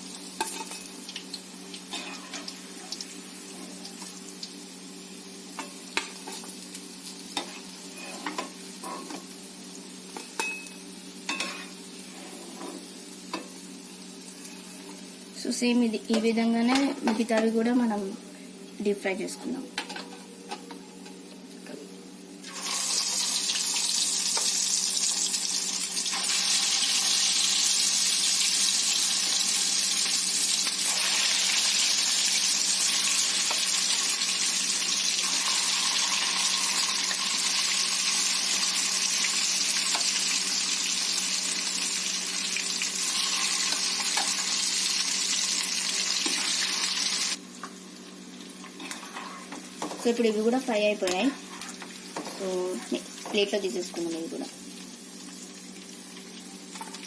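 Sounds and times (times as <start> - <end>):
fish deep-frying in hot oil: 0.0 - 18.0, 22.4 - 57.0.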